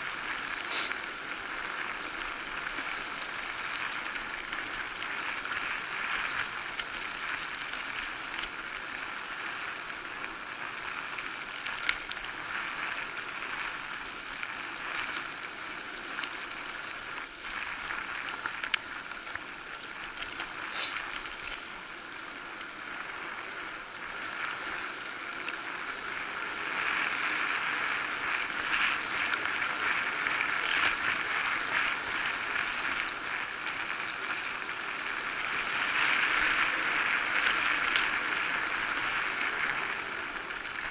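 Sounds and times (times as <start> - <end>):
bike tyres rolling on dirt: 0.0 - 40.9.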